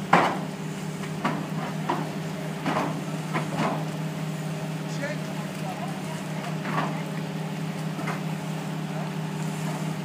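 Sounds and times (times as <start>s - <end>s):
fire engine pump droning: 0.0s - 10.0s.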